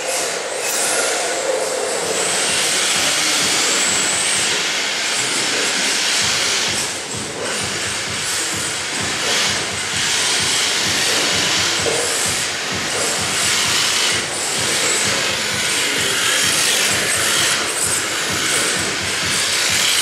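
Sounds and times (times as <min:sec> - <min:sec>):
electric motors whirring: 0:00.0 - 0:20.0
tyres scrubbing rasping hiss: 0:00.0 - 0:20.0.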